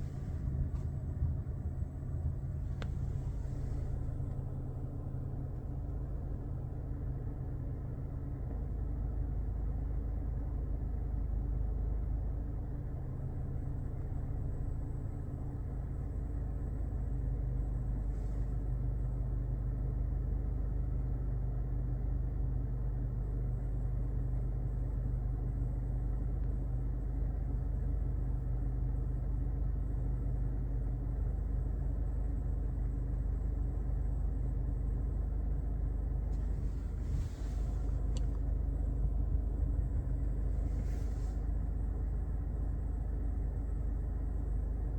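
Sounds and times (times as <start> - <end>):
car engine low rumble: 0.0 - 44.9.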